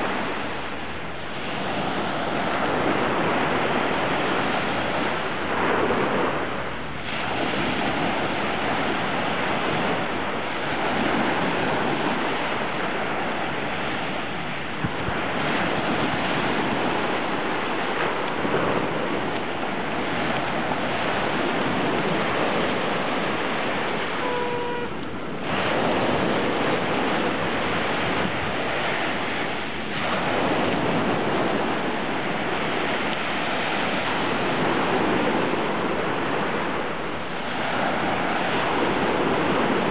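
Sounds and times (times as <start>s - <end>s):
waves breaking on sandy beach: 0.0s - 39.9s
wind on microphone: 0.0s - 39.9s.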